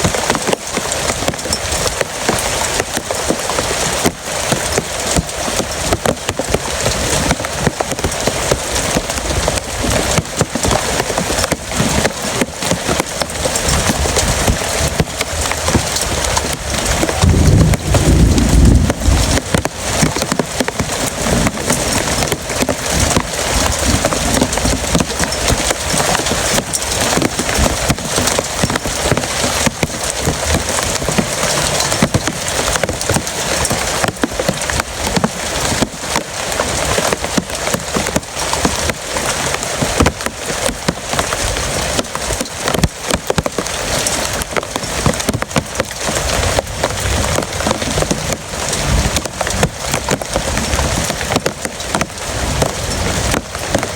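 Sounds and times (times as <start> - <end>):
heavy rain on hard surface: 0.0 - 53.9.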